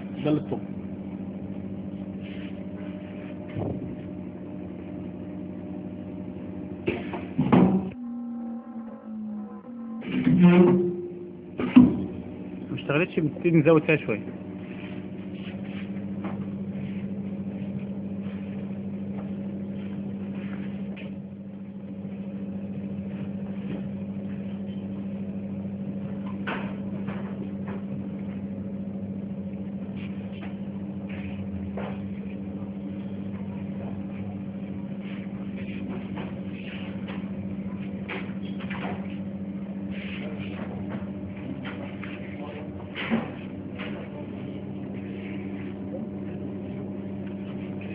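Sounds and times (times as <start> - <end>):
machine humming: 0.0 - 47.9.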